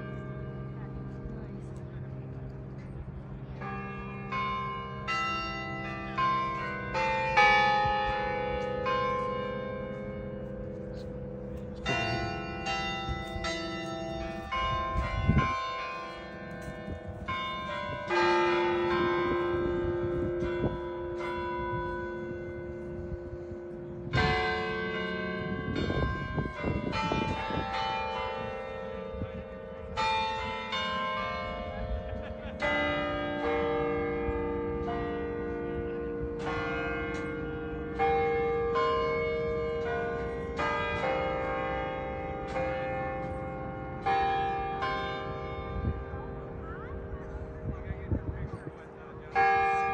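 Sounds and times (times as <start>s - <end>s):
carillon bells playing carol: 0.0s - 49.9s.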